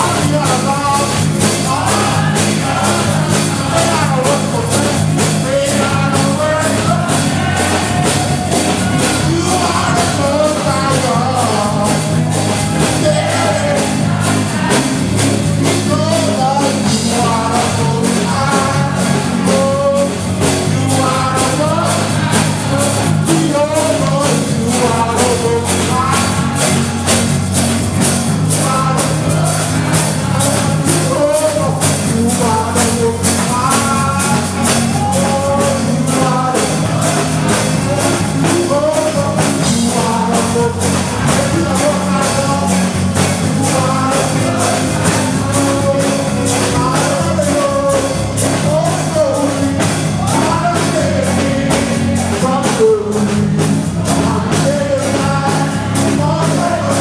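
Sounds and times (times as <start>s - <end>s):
congregation singing worship music: 0.0s - 57.0s
instrumental backing: 0.0s - 57.0s
steady percussion beat: 0.0s - 57.0s.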